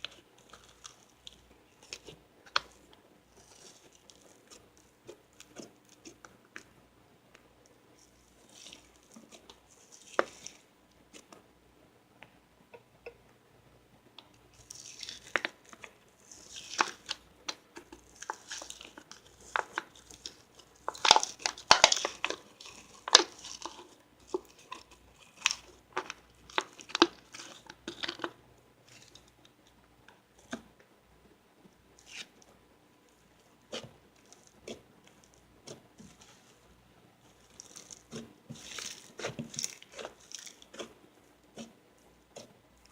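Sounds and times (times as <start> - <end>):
slime crackling and popping: 0.0 - 6.8, 8.2 - 11.4, 14.5 - 29.5, 32.0 - 42.9.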